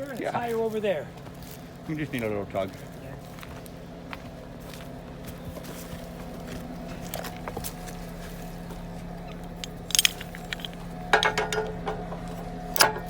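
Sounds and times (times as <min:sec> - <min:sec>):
sharp crackling and crunching: 0:00.0 - 0:13.0
engine running at low revs: 0:01.0 - 0:13.0.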